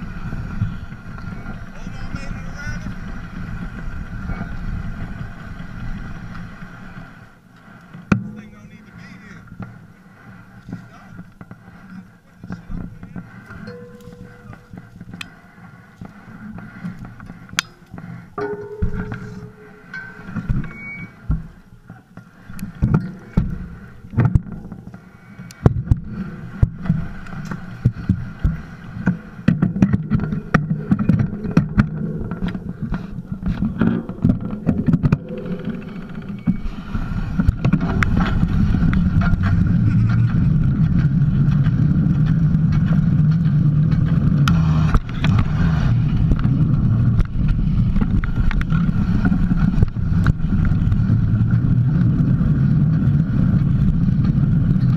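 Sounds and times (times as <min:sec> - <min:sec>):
bike knocking and rattling: 0:00.0 - 0:54.9
wind and tyre rumble: 0:00.0 - 0:54.9.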